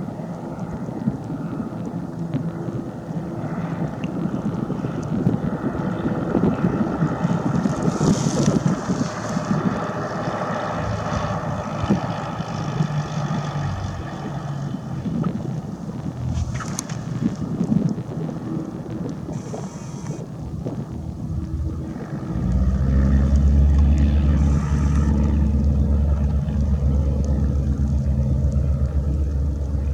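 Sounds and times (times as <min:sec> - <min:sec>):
aircraft engine droning: 0:00.0 - 0:29.9
wind buffeting microphone: 0:00.0 - 0:29.9.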